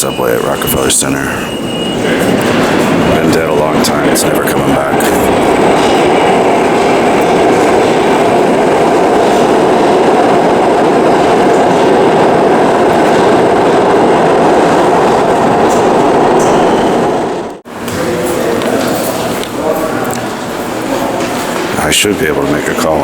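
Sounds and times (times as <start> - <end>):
subway train running through station: 0.0 - 23.0.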